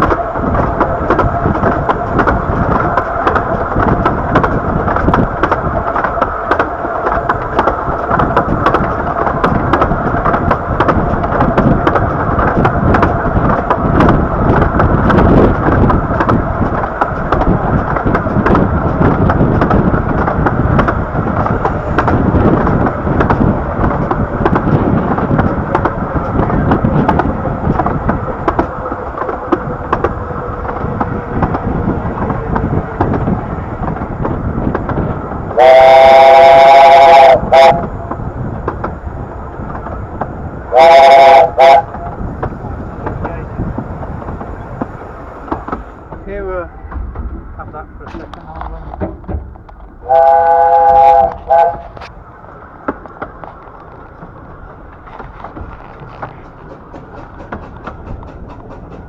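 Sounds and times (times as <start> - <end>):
miniature train rumbling: 0.0 - 59.0.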